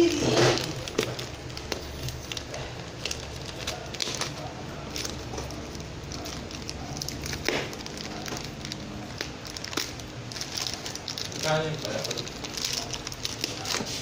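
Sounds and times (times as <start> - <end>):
plastic pouch crinkling and rustling: 0.0 - 14.0.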